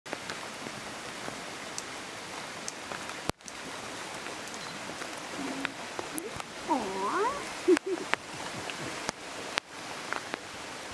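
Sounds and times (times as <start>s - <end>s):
river running over gravel: 0.1s - 10.9s.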